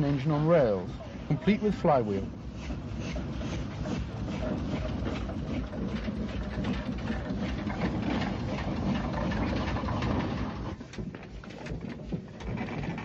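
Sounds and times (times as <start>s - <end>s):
steam locomotive clattering and chuffing: 0.0s - 13.0s.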